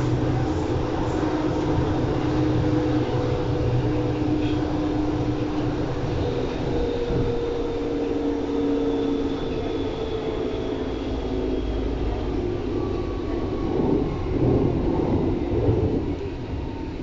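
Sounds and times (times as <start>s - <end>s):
train wheels rumbling on track: 0.0s - 17.0s
whining train drive: 0.0s - 17.0s.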